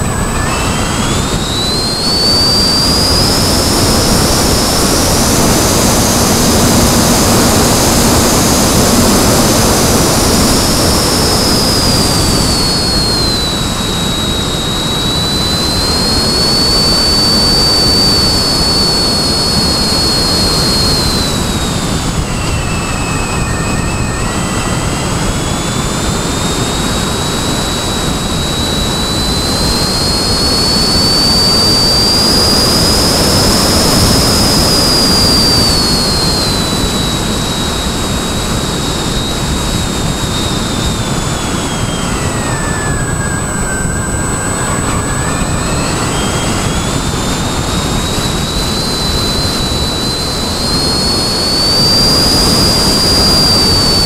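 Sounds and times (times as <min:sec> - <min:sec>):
model aircraft motor whine: 0:00.0 - 0:54.0
wind rush on microphone: 0:00.0 - 0:54.0.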